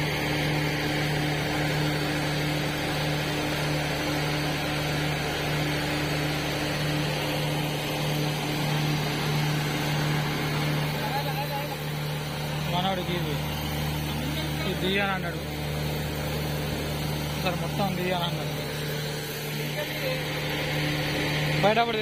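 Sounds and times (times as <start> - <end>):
drilling rig engine hum: 0.0 - 22.0.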